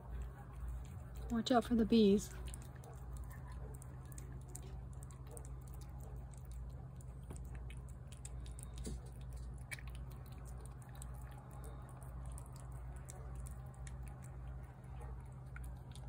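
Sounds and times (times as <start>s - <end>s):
cat chewing and licking: 0.0s - 16.0s
low background rumble: 0.0s - 16.0s.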